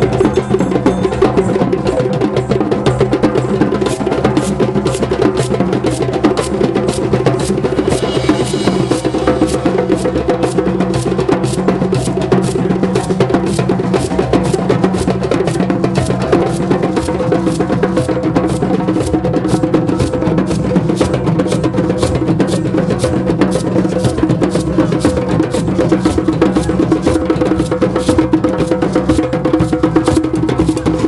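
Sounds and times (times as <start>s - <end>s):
djembes playing: 0.0s - 31.0s.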